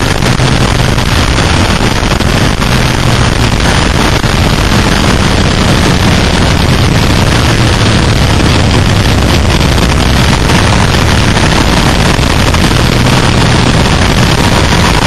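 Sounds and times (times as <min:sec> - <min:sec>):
motorcycle engine running hard: 0:00.0 - 0:15.0
wind rushing on microphone: 0:00.0 - 0:15.0.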